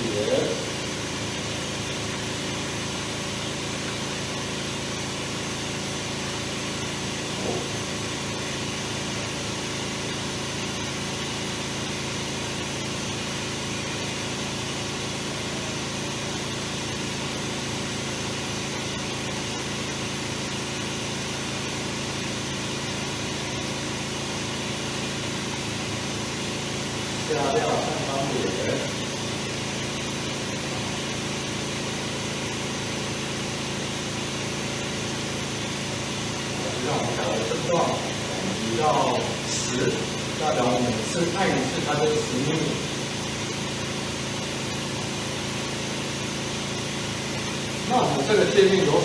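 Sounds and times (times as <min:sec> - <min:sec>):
machine hum with hiss: 0:00.0 - 0:49.0.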